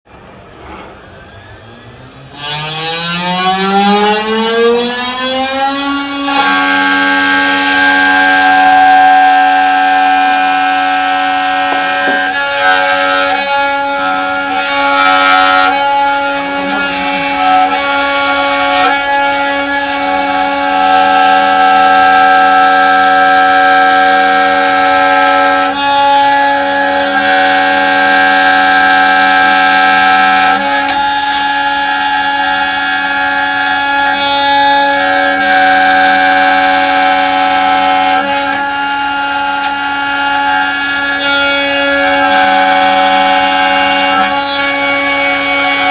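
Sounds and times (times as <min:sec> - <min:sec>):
router spindle whine: 0:00.1 - 0:45.9.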